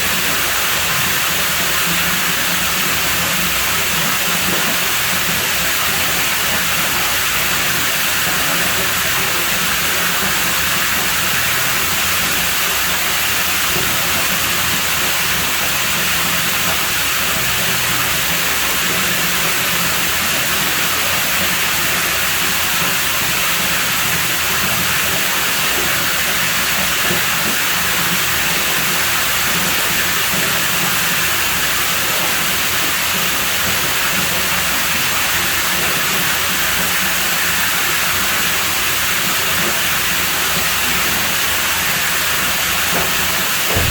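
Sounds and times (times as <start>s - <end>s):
pool water running: 0.0s - 43.9s.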